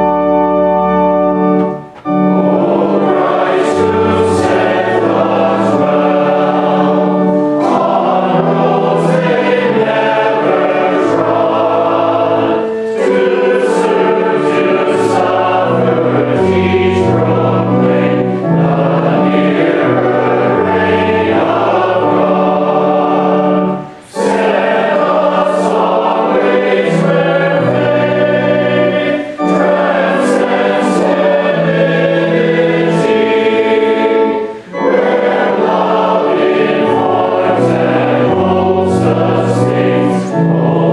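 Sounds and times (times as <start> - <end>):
group singing a hymn: 1.6 - 40.9.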